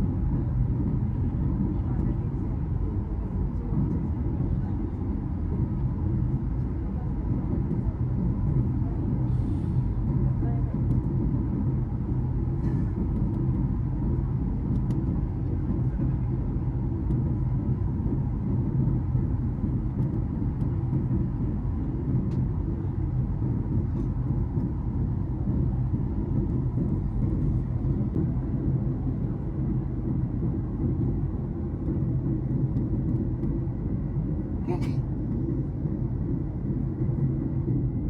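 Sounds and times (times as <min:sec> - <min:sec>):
aircraft cabin engine rumble: 0:00.0 - 0:38.0.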